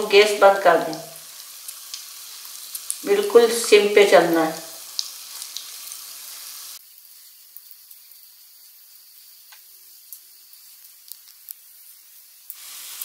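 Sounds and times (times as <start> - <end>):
deep-frying sizzle with small pops: 0.0 - 13.0.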